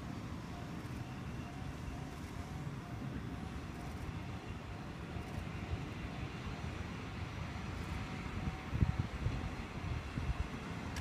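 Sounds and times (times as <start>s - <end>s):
distant diesel railcar rumbling: 0.0s - 11.0s.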